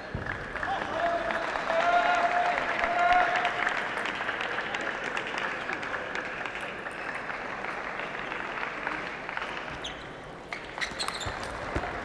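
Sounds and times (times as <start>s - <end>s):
crowd applause: 0.0s - 9.8s.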